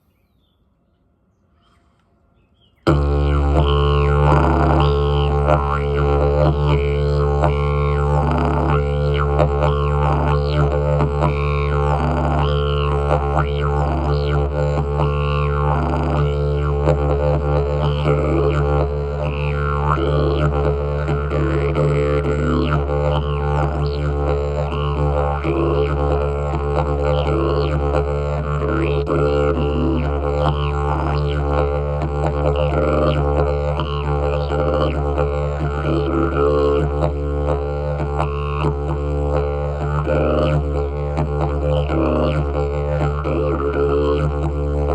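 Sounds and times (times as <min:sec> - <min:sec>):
didgeridoo drone: 0:02.9 - 0:44.9.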